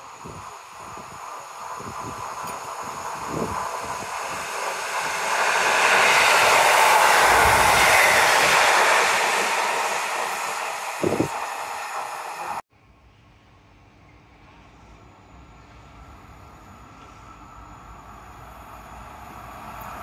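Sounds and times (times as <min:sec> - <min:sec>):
train passing at speed: 0:00.0 - 0:12.6, 0:13.2 - 0:20.0.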